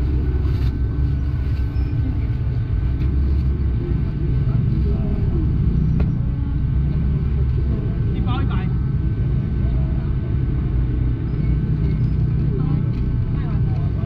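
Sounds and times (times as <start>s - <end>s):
faint crowd chatter: 0.0s - 14.0s
steady low rumble: 0.0s - 14.0s.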